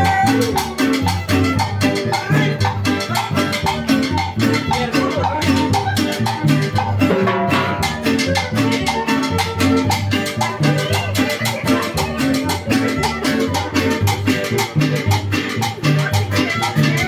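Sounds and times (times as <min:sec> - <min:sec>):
live band playing latin dance music: 0:00.0 - 0:17.0
repeating bass line: 0:00.0 - 0:17.0.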